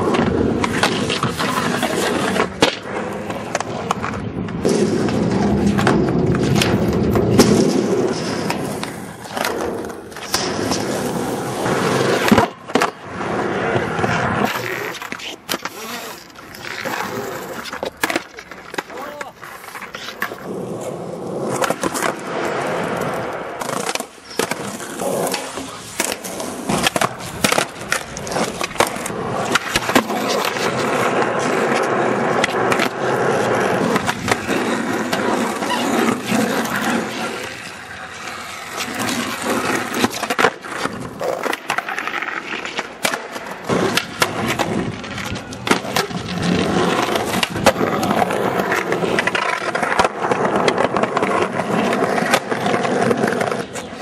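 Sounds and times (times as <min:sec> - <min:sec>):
skateboard popping and landing: 0:00.0 - 0:54.0
skateboard wheels rolling on asphalt: 0:00.0 - 0:54.0.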